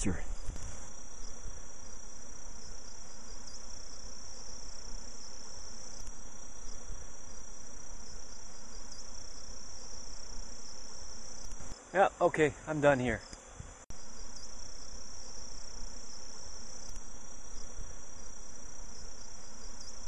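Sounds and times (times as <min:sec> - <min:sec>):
insects chirring: 0:00.0 - 0:20.0
low buzzing hiss: 0:00.0 - 0:20.0.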